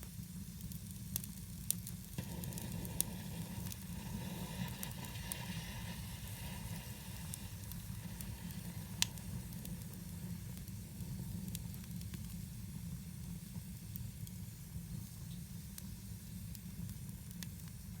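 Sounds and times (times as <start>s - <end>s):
campfire crackling and popping: 0.1s - 15.9s, 16.5s - 18.0s.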